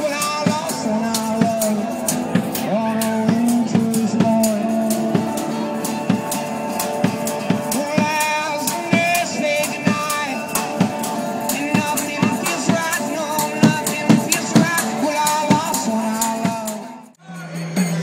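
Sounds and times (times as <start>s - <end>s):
band playing instrumental music: 0.0s - 18.0s
drum kit beat: 0.0s - 18.0s.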